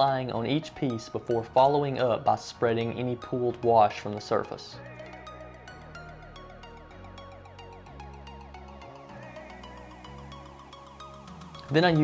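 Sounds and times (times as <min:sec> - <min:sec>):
electronic music with steady beat: 0:00.1 - 0:12.0.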